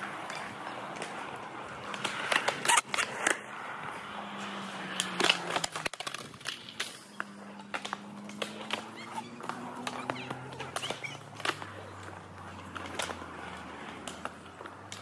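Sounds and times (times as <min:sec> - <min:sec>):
skateboard wheels rolling on concrete: 0:00.0 - 0:15.0
skateboards clacking on ground: 0:00.0 - 0:15.0.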